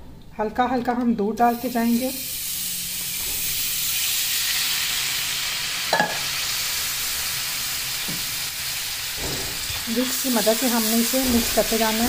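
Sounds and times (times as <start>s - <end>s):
roux sizzling in a pan: 1.5s - 12.0s.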